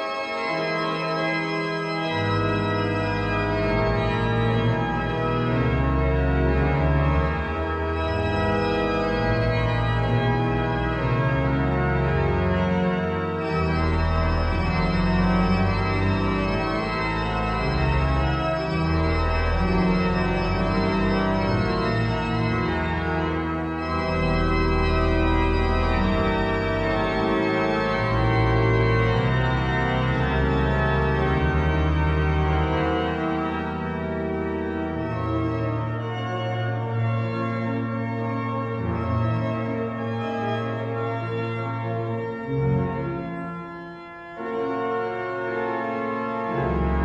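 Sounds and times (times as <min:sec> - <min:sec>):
pipe organ playing chords: 0:00.0 - 0:47.0.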